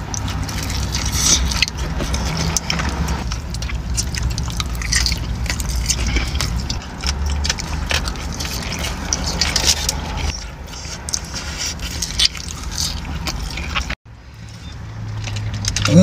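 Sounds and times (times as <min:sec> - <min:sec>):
chewing and lip smacking: 0:00.0 - 0:16.0.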